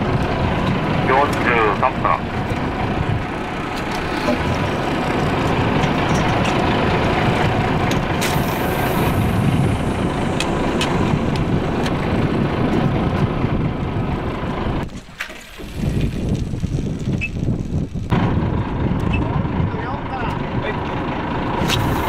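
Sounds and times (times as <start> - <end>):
boat engine idling: 0.0 - 16.2, 18.1 - 22.0
wind: 0.0 - 22.0.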